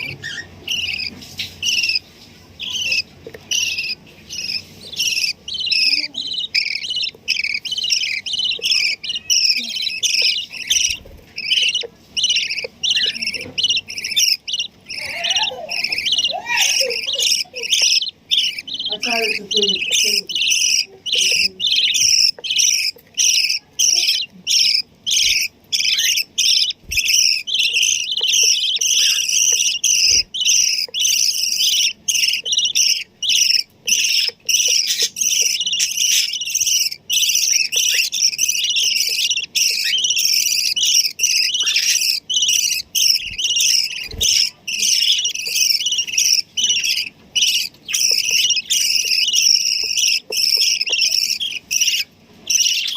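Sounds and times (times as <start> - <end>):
bird chicks begging chirps: 0.0 - 52.9.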